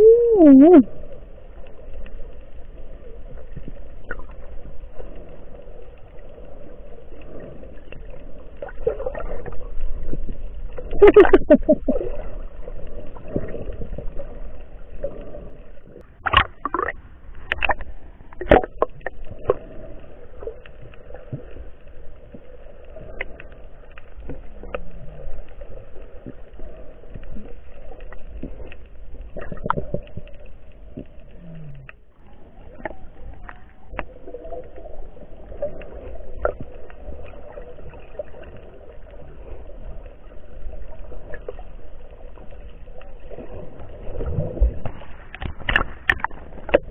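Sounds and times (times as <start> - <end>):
low underwater rush: 0.0 - 46.9.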